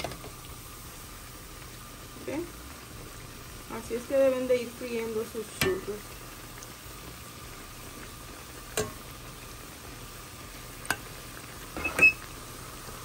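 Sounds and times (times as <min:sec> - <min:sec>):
dough deep-frying in oil: 0:00.0 - 0:13.0.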